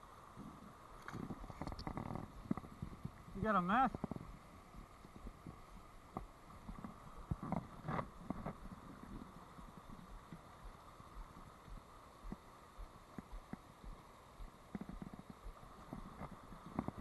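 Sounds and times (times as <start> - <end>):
shallow river running: 0.0 - 17.0.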